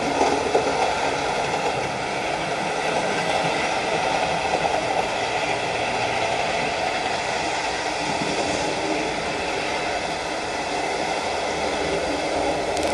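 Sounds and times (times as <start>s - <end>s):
model train wheels on track: 0.0s - 12.9s.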